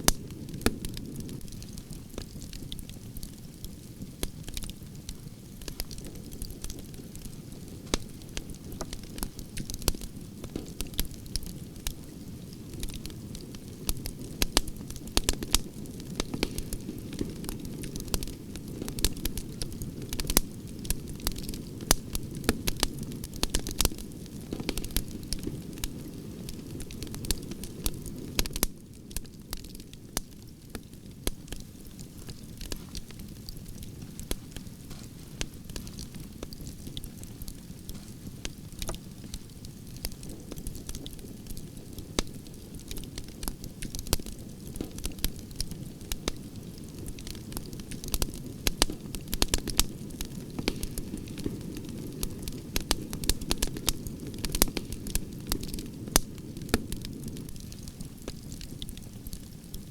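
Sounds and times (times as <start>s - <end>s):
wood fire crackling: 0.0s - 59.9s
low rushing of flames: 0.1s - 59.9s.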